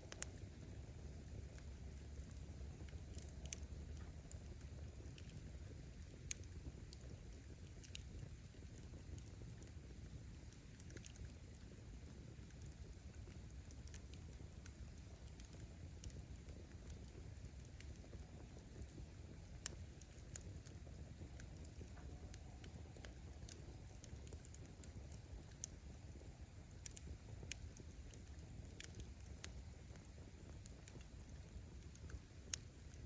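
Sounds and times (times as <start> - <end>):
fire rumbling: 0.0 - 33.0
firewood crackling and popping: 0.0 - 33.0.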